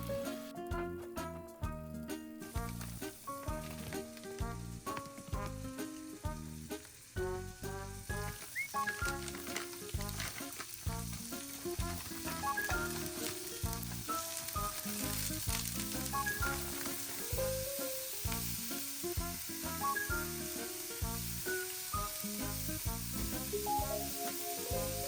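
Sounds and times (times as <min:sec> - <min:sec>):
food sizzling in a pan: 0:00.0 - 0:01.3, 0:02.4 - 0:25.0
background music: 0:00.0 - 0:25.0.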